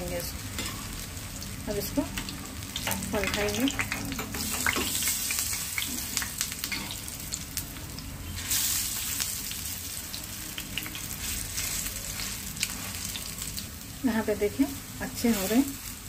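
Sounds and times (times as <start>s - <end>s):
patties sizzling in oil: 0.0s - 16.0s.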